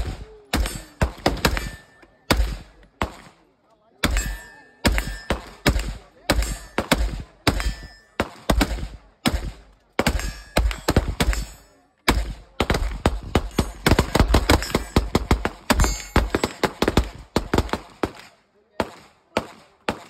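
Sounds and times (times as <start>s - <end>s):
gunfire from several firearms: 0.0s - 3.4s, 4.0s - 20.0s.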